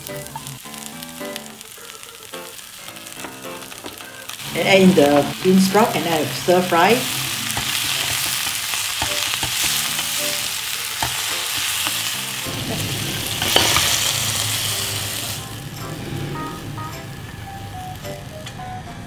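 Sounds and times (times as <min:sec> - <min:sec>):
vegetables sizzling in a wok: 0:00.0 - 0:18.8.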